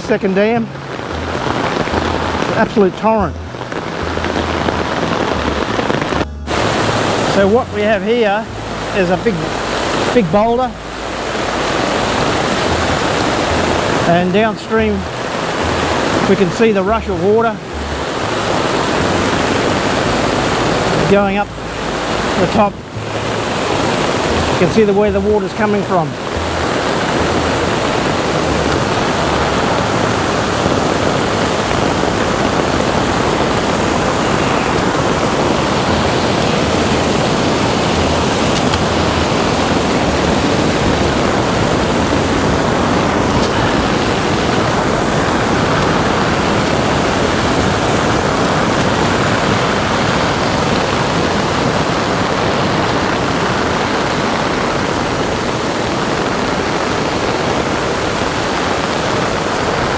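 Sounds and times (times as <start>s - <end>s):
floodwater rushing down creek: 0.0s - 59.9s.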